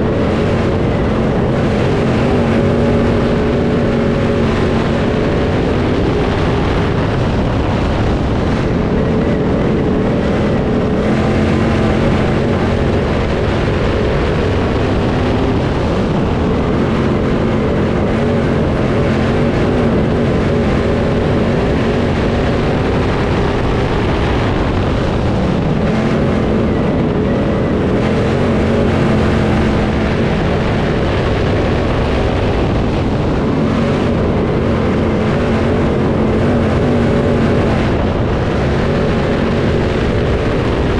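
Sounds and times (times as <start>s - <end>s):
race car engine revving: 0.0s - 40.9s
wind noise on microphone: 0.0s - 40.9s.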